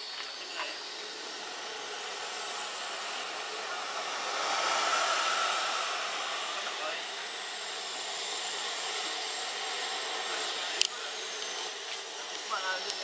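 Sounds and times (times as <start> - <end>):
model jet turbine whining: 0.0 - 13.0.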